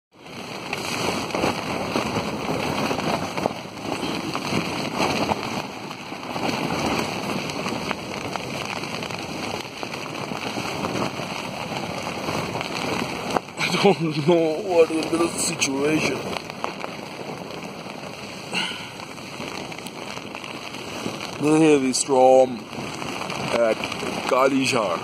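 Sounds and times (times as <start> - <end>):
heavy rain on tent fabric: 0.1 - 25.0.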